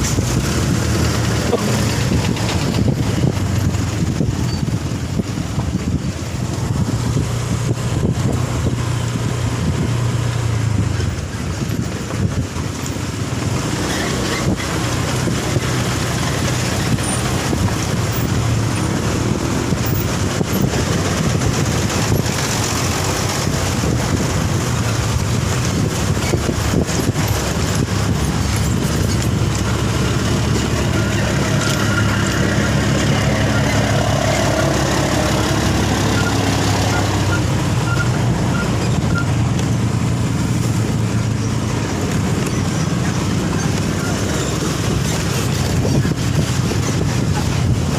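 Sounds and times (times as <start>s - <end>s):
road noise: 0.0s - 47.9s
vehicle engine hum: 0.0s - 47.9s.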